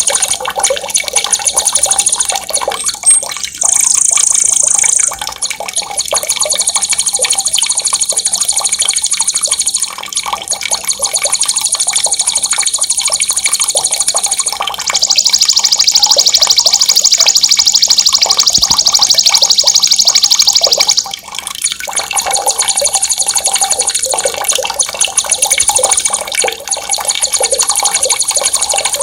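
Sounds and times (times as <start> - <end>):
running water: 0.0 - 29.0
songbird high-pitched rolling trills: 1.2 - 10.0, 10.7 - 21.1, 22.3 - 29.0.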